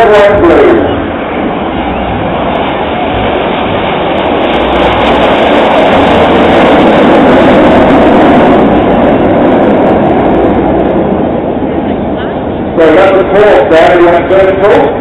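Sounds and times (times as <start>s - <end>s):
jet engines flying past: 0.0s - 15.0s.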